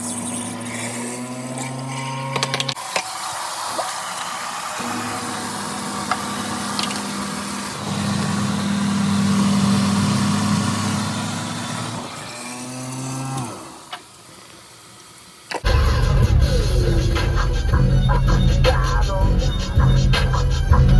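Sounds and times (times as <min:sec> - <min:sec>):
motor humming: 0:00.0 - 0:19.7.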